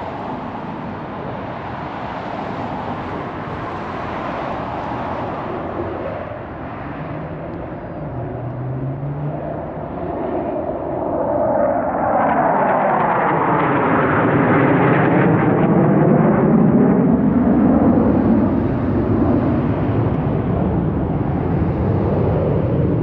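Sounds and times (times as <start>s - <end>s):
fighter jets flying past: 0.0s - 23.0s.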